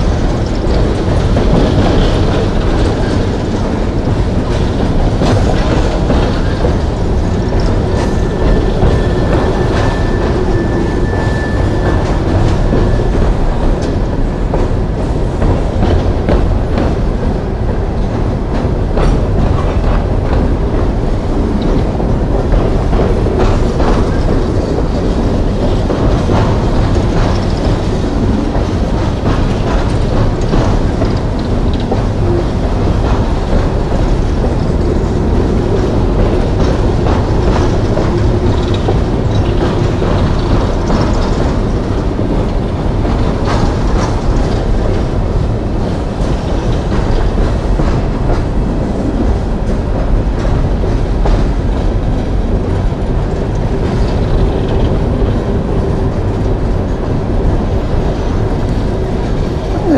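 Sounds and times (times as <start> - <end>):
clickety-clack over rail joints: 0.0 - 59.9
steel wheels rumbling on rails: 0.0 - 59.9.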